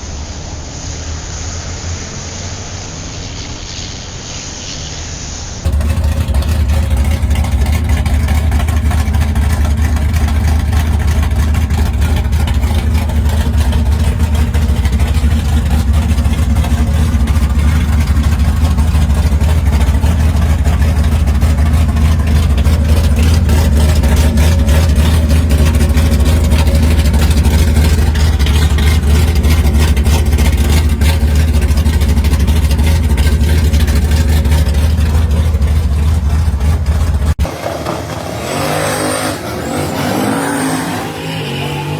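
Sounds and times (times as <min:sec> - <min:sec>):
hot rod engine running: 0:05.6 - 0:41.9.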